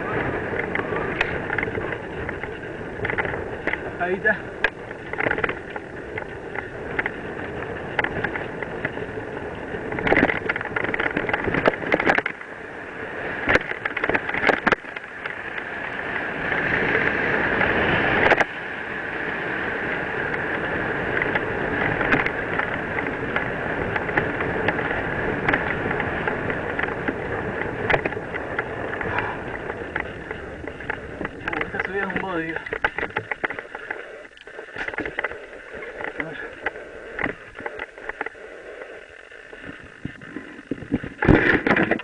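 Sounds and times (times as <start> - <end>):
bike clattering over bumps: 0.0 - 42.0
bike tyre noise on gravel: 0.0 - 42.0
wind on microphone: 0.0 - 42.0.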